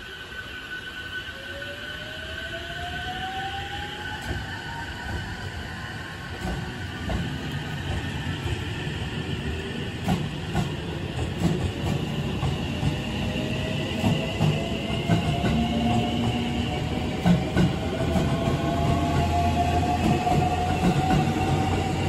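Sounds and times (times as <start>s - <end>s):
train wheels rumbling on rail: 2.8s - 22.0s.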